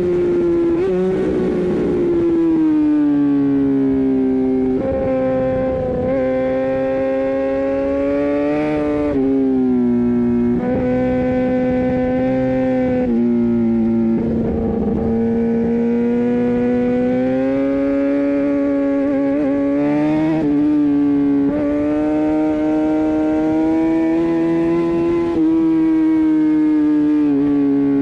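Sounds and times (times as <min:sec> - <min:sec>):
motorcycle engine running at high revs: 0:00.0 - 0:28.0.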